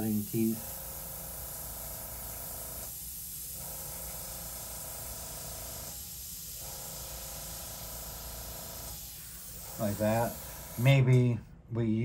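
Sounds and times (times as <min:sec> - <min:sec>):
airbrush hissing: 0:00.0 - 0:11.0.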